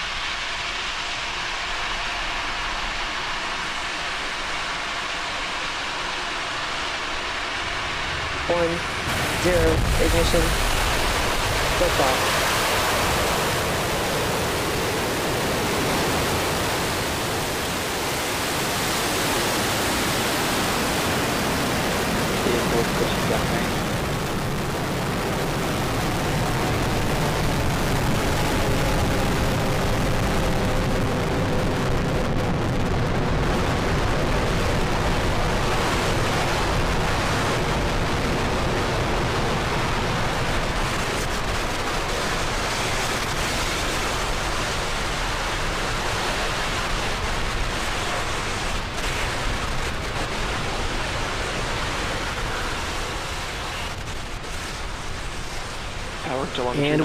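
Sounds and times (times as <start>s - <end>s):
rocket engines roaring: 0.0s - 57.0s.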